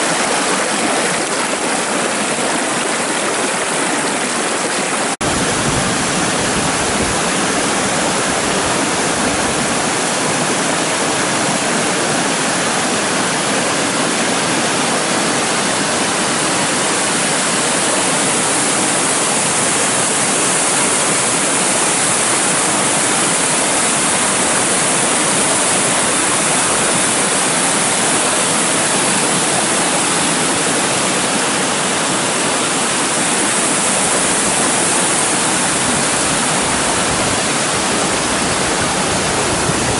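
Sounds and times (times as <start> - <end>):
small waterfall pouring: 0.0 - 39.9.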